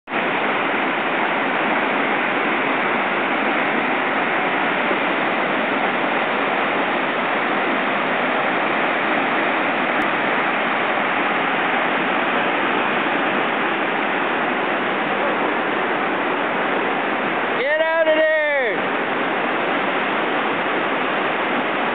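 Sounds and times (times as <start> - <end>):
water rushing over rocks: 0.1 - 21.9.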